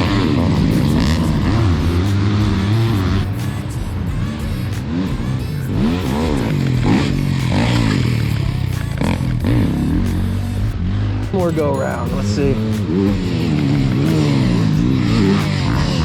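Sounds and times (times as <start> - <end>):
dirt bikes revving past: 0.0 - 16.0.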